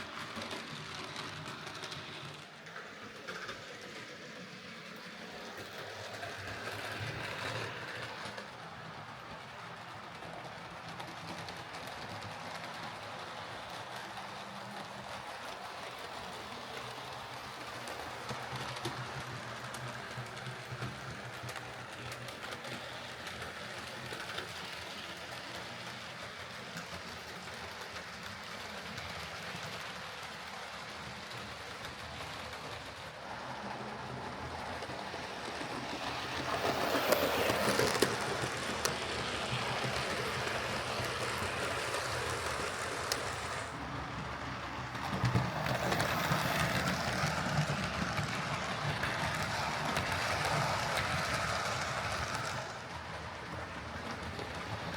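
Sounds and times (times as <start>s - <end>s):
model train motor humming: 0.0s - 54.9s
wheels clicking over rails: 0.0s - 54.9s.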